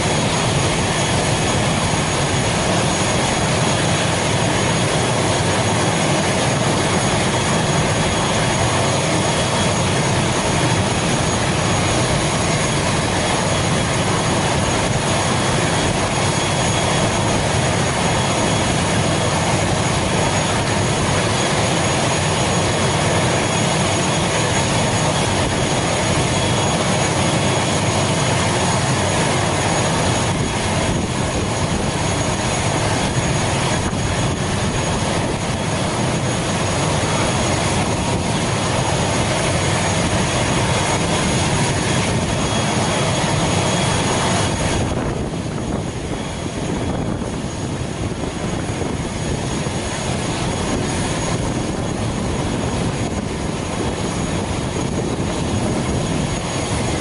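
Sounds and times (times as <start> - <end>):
turboprop engine roar: 0.0 - 57.0.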